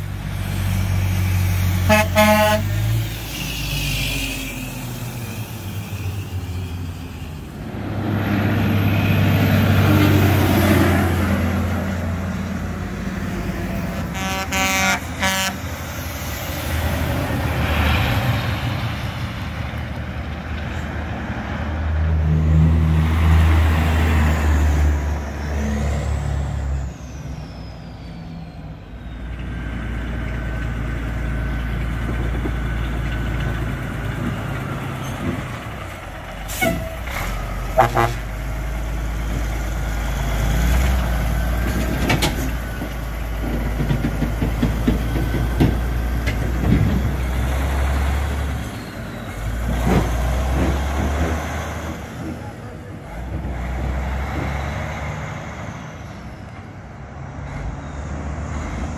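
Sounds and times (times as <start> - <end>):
diesel truck driving past: 0.0 - 58.9
truck engine low rumble: 0.0 - 58.9.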